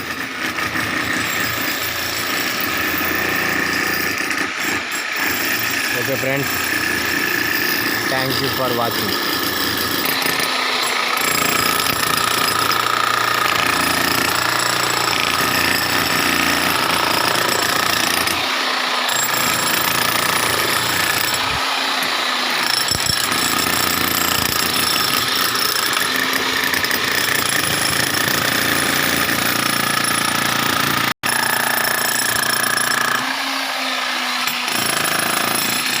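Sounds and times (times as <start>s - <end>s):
jackhammer breaking tiles: 0.0s - 36.0s.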